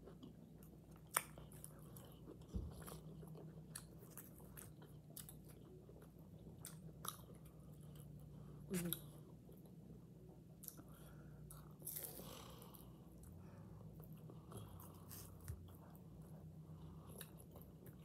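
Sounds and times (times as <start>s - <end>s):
person chewing food: 0.0s - 9.8s, 10.6s - 18.0s.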